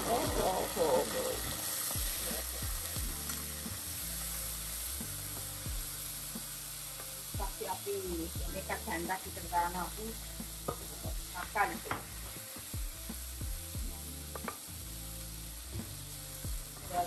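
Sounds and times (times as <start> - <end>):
sauce sizzling in pan: 0.0 - 17.0.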